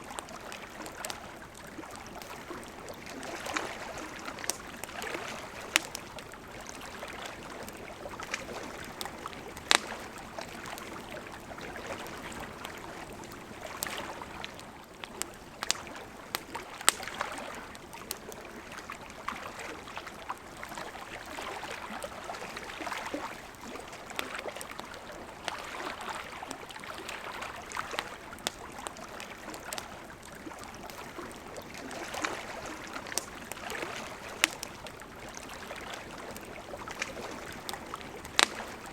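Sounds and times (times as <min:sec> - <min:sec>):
campfire crackling and popping: 0:00.0 - 0:38.9
lake waves lapping: 0:00.0 - 0:38.9.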